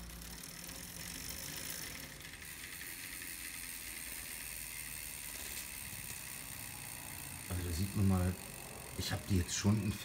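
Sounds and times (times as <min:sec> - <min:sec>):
bike wheel spinning with whirring hiss: 0:00.0 - 0:10.0.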